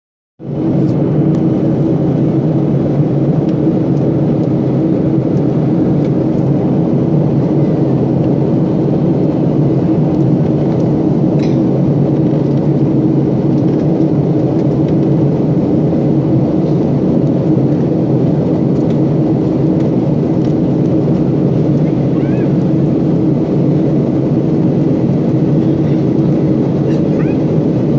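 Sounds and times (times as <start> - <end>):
airliner engine drone in cabin: 0.4 - 27.9.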